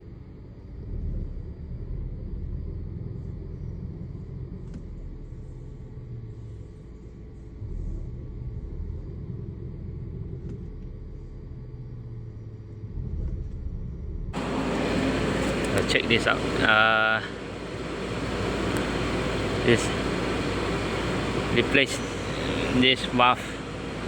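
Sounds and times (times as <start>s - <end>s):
car engine idling rough: 0.0s - 24.0s.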